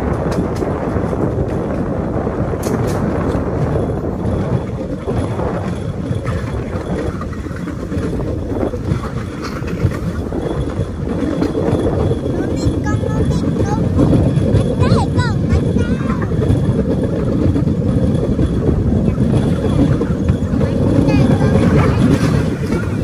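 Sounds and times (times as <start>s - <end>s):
train rumbling on rails: 0.0s - 23.0s
wind buffeting microphone: 0.0s - 23.0s
sharp clacks: 2.5s - 23.0s.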